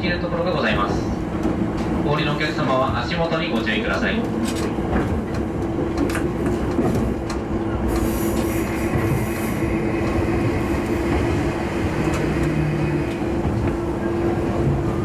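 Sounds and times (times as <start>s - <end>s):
diesel railcar engine drone: 0.0s - 15.0s
wheels rumbling on rails: 0.0s - 15.0s.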